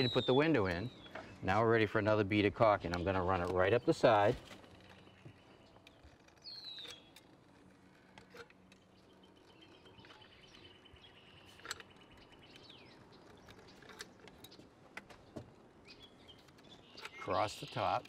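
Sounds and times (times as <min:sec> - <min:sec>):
faint bird chirps and trill: 0:00.0 - 0:01.9, 0:04.6 - 0:18.0.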